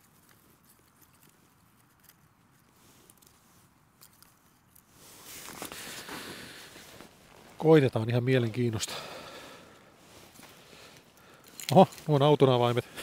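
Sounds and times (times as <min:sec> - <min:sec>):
rustling of gear: 0:00.0 - 0:13.0.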